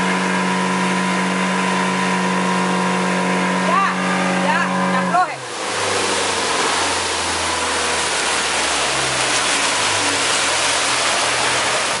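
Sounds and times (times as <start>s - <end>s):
outboard engine hum: 0.0s - 12.0s
rush of wake water and wind: 0.0s - 12.0s.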